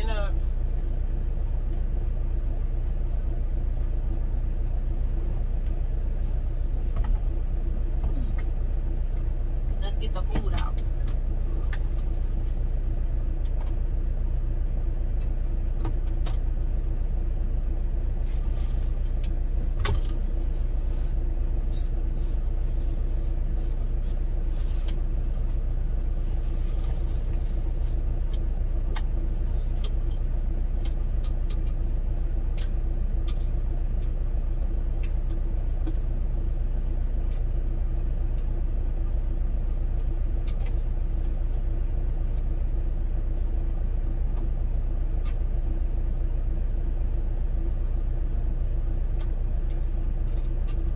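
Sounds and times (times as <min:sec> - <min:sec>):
diesel engine idling: 0:00.0 - 0:50.9
faint steady hum: 0:00.0 - 0:50.9.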